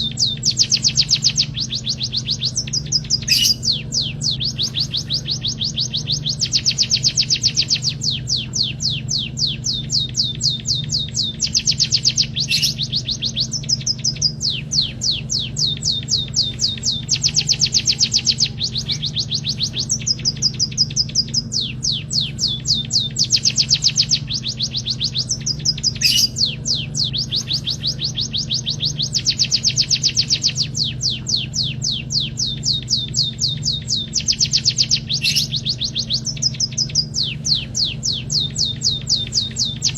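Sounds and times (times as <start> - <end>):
bird singing rapid trills: 0.0 - 39.9
steady low hum: 0.0 - 39.9.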